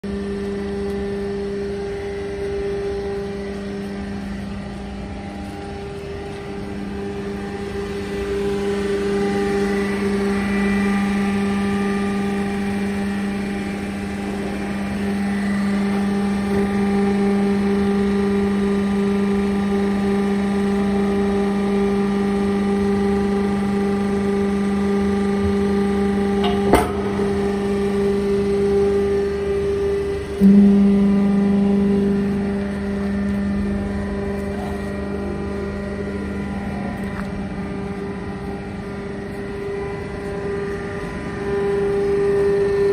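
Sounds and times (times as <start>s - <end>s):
hydraulic pump humming and whining: 0.0s - 42.9s.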